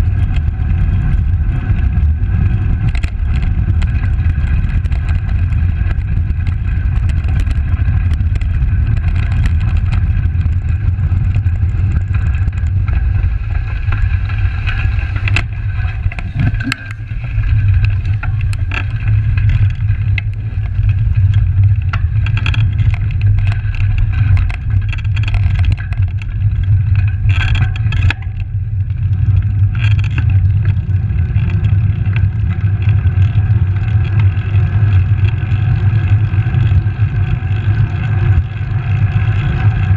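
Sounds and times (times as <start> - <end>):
bicycle tyre noise: 0.0 - 39.9
wind buffeting microphone: 0.0 - 39.9
clicks and knocks from bumps: 2.7 - 35.5.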